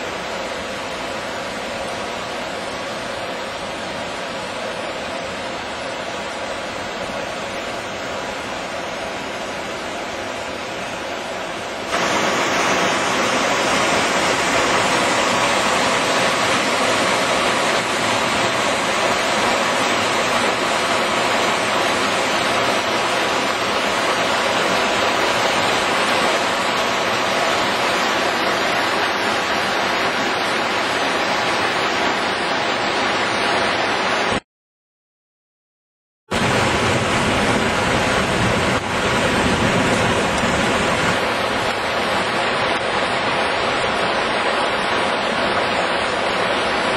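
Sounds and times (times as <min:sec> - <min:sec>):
water rushing over rocks: 0:00.0 - 0:34.4, 0:36.3 - 0:46.9.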